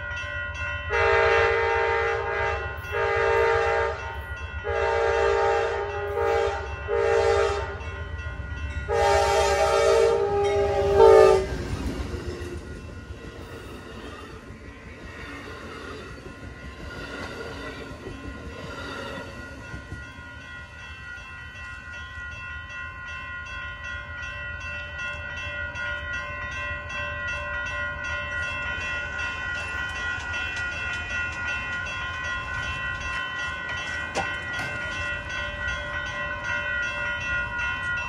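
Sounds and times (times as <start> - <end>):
train approaching: 0.0 - 38.0.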